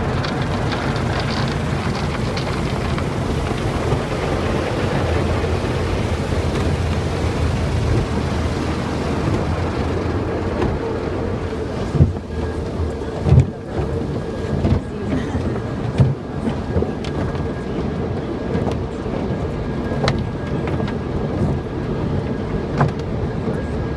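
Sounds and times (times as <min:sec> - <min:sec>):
car wash machinery drumming: 0:00.0 - 0:23.9.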